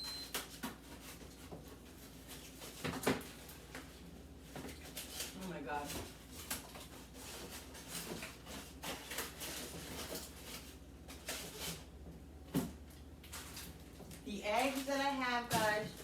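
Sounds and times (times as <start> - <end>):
refrigerator low hum: 0.0 - 16.0
packages rustling: 0.4 - 12.0, 13.2 - 16.0.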